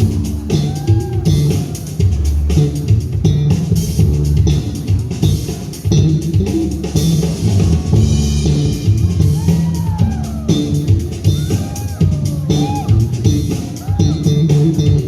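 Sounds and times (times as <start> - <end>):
drum kit: 0.0 - 15.0
electric bass guitar solo: 0.0 - 15.0.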